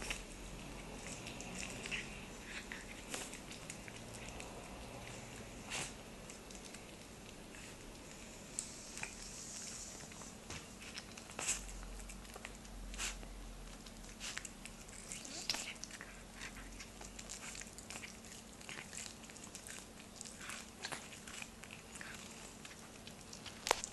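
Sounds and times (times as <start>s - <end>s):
cat chewing corn kernels: 0.0s - 23.9s.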